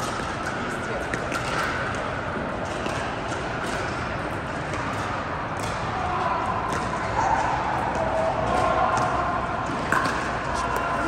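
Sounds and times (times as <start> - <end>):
sports hall background noise: 0.0 - 11.0.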